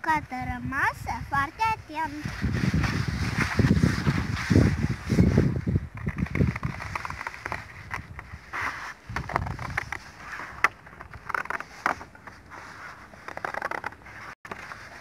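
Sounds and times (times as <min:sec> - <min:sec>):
paper crackling: 0:02.0 - 0:15.0.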